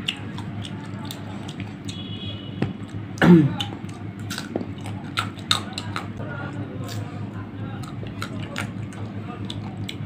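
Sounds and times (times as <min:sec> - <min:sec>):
crunchy chewing and mouth smacks: 0:00.0 - 0:06.2, 0:07.7 - 0:10.0.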